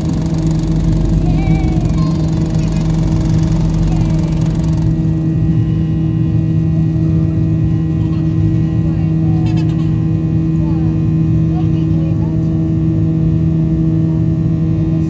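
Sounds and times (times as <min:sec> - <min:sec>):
jet engine roar in cabin: 0:00.0 - 0:15.0.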